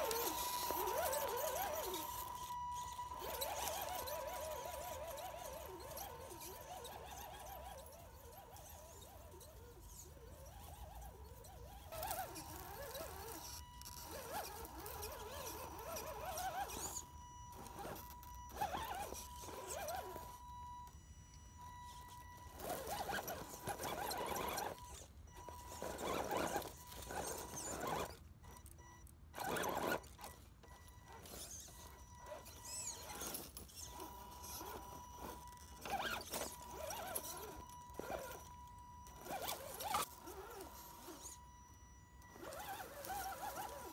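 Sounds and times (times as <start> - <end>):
electric motor whining: 0.0 - 43.9.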